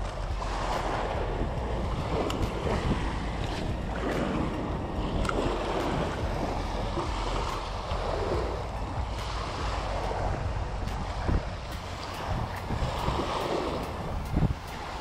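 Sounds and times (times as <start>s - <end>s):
small waves lapping on shore: 0.0s - 15.0s
wind rumbling on microphone: 0.0s - 15.0s.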